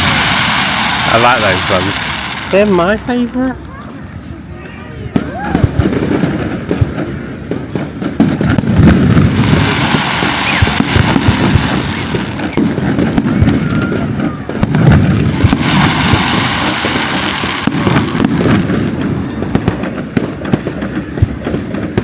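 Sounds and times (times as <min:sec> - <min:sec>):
fireworks crackling and popping: 0:00.0 - 0:22.0
fireworks low bangs: 0:00.0 - 0:22.0.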